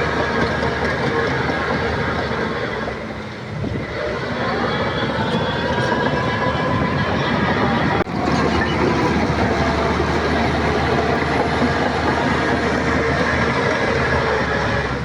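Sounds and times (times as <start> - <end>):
diesel engine running: 0.0 - 15.0
steel tracks clanking and squeaking: 0.0 - 15.0.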